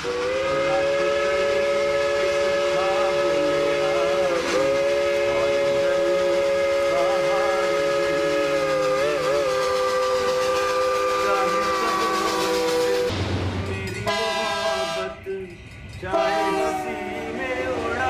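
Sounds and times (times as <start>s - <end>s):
train whistle chord: 0.0s - 13.1s, 13.9s - 15.3s, 16.1s - 18.0s.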